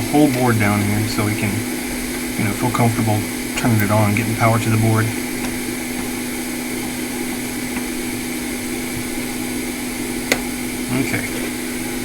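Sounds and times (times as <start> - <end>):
electric fan motor humming: 0.0 - 12.0.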